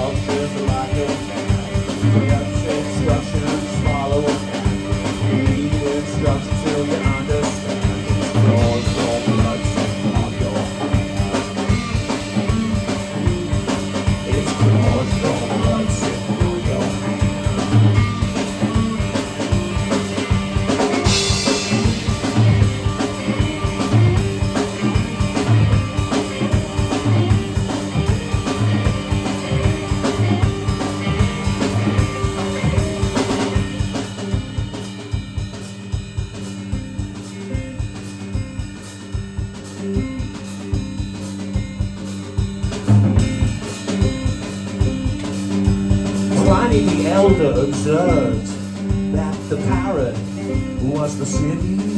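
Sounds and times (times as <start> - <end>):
drum kit beat: 0.0 - 51.9.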